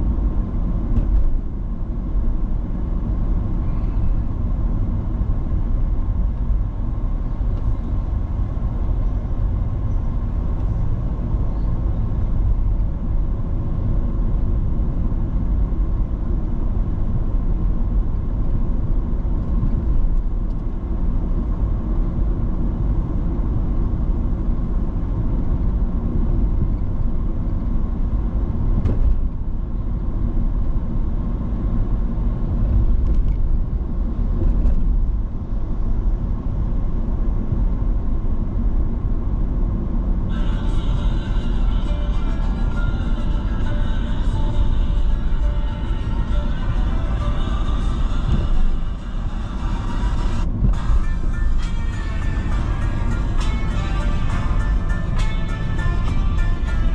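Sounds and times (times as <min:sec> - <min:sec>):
car road and engine noise: 0:00.0 - 0:56.9.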